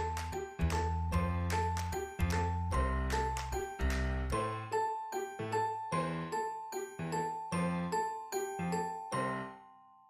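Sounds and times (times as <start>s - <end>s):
chiming bell-like music: 0.0s - 10.0s.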